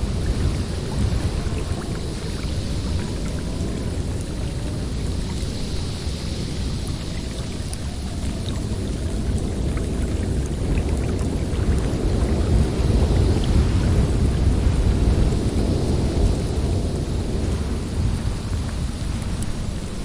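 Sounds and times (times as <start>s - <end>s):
blizzard wind gusting: 0.0s - 20.0s.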